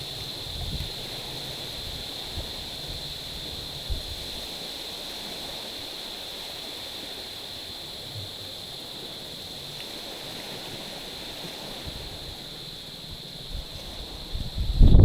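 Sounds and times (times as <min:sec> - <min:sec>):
waves lapping on pebbly shore: 0:00.0 - 0:14.9
high-pitched hiss: 0:00.0 - 0:15.0.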